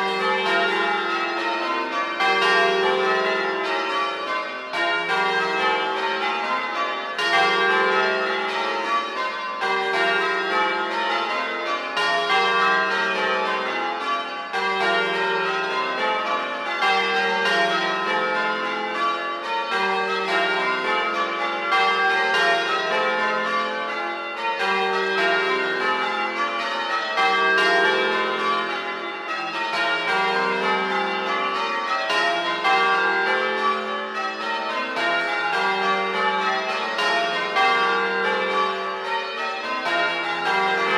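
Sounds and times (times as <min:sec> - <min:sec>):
church bells change ringing: 0:00.0 - 0:40.9.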